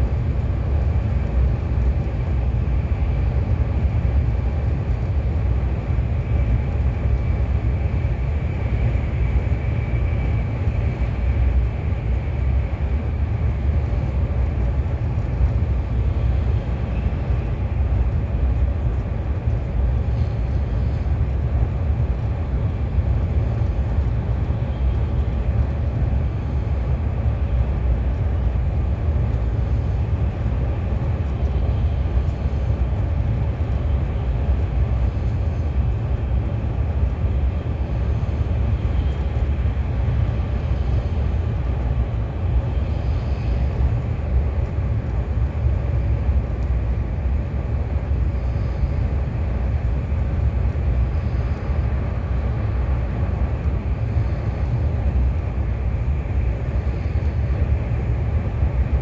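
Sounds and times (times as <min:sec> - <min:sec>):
train running and track noise: 0:00.0 - 0:59.0.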